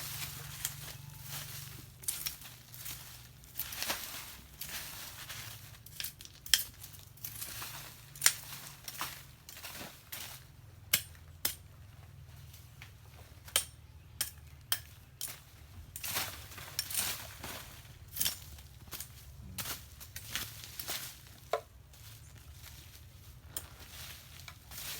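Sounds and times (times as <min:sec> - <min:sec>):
rustling vegetation and debris: 0:00.0 - 0:24.9.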